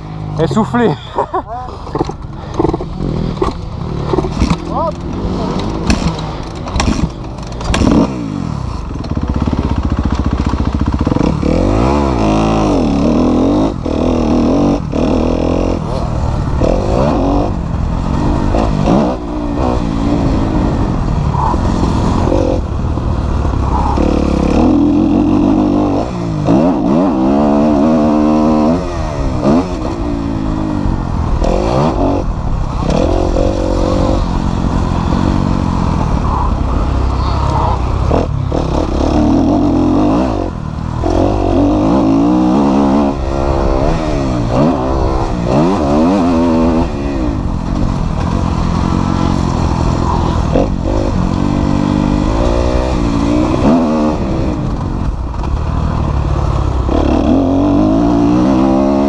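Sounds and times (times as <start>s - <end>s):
dirt bike engine revving: 1.9s - 59.0s.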